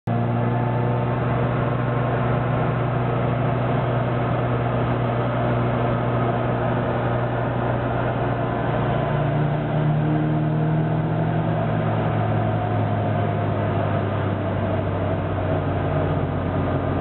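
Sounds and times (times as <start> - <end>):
car engine running steadily: 0.0 - 17.0
road and wind noise: 0.1 - 17.0.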